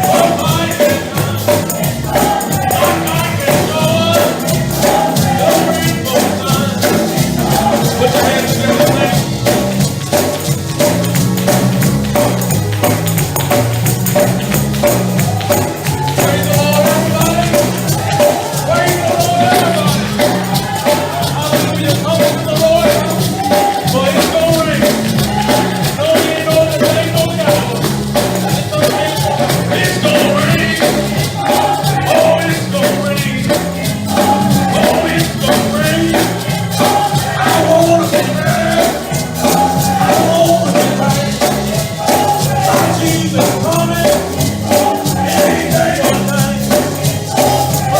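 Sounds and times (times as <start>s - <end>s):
gospel praise music: 0.0s - 47.9s
tambourine shaken: 0.0s - 47.9s.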